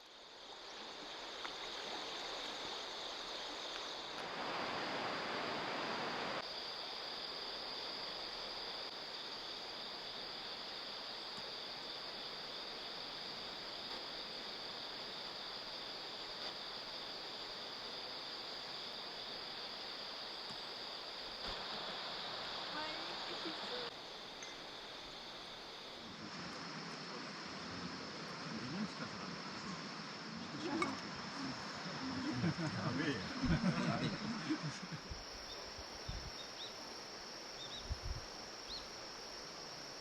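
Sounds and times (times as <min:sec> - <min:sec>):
river flowing: 0:00.0 - 0:33.0.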